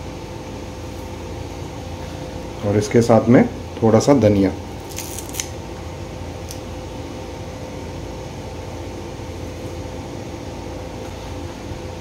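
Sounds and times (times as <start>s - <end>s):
motor hum with steady tone: 0.0s - 12.0s.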